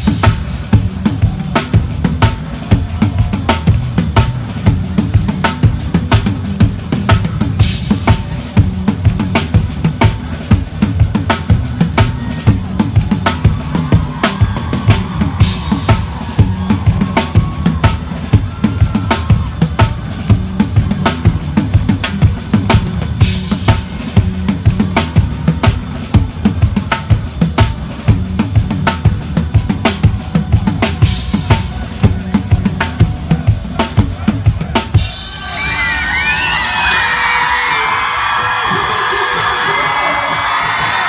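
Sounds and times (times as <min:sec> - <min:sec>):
drum kit beat: 0:00.0 - 0:41.0
loud band music: 0:00.0 - 0:41.0.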